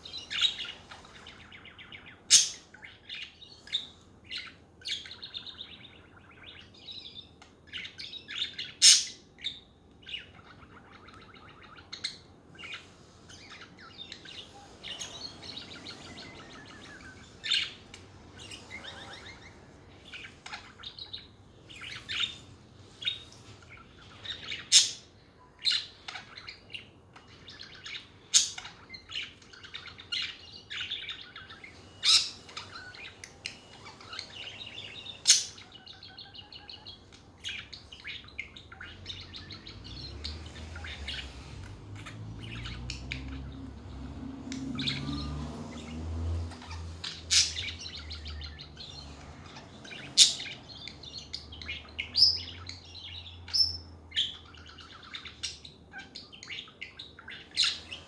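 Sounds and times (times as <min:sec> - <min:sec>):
budgerigars chirping: 0:00.0 - 0:58.0.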